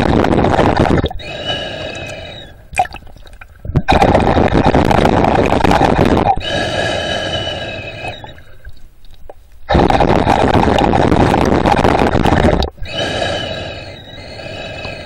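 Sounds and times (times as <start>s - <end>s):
underwater breathing: 0.0s - 8.8s, 9.7s - 15.0s
air bubbles: 0.0s - 15.0s.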